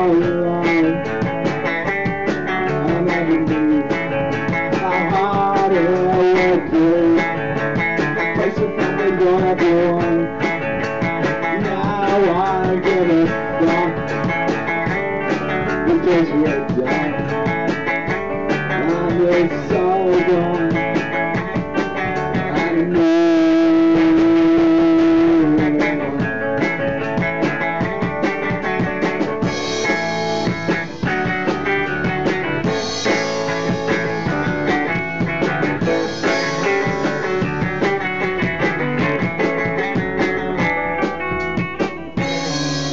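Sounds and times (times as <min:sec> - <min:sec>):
drum kit: 0:00.0 - 0:42.9
electric guitar: 0:00.0 - 0:42.9.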